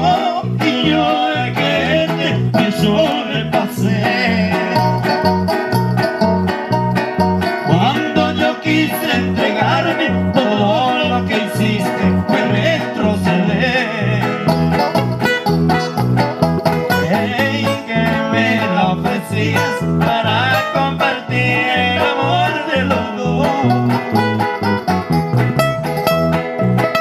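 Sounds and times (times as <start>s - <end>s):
instrumental song with beat: 0.0s - 27.0s.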